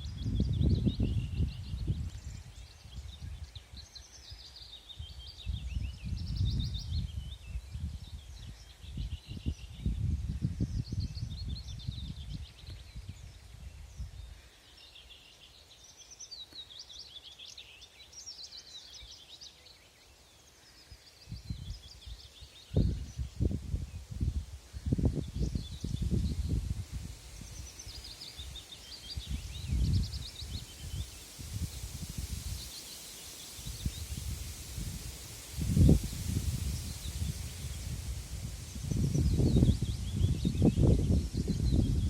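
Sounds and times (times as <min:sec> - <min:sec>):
songbirds chirping and trilling: 0:00.0 - 0:42.0.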